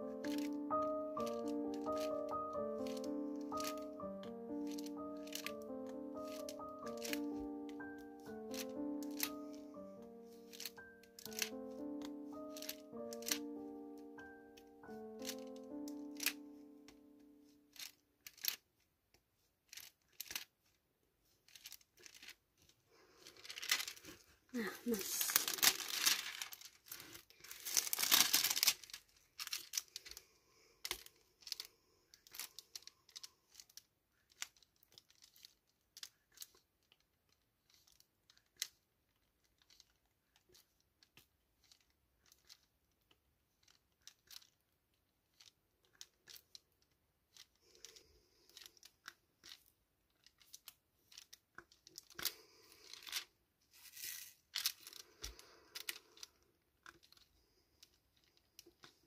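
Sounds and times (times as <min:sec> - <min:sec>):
plastic film crinkling: 0:00.0 - 0:18.8, 0:19.4 - 0:59.0.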